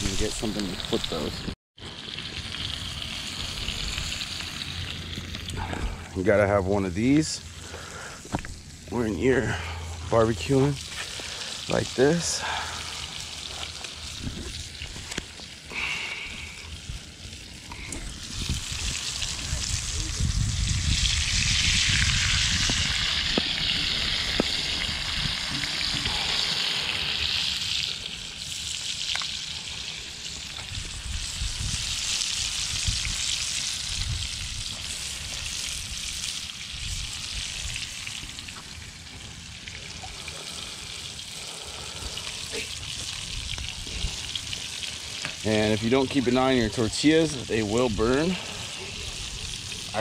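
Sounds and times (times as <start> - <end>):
fish sizzling in hot oil: 0.0 - 6.0, 9.8 - 50.0
oil popping: 7.4 - 50.0.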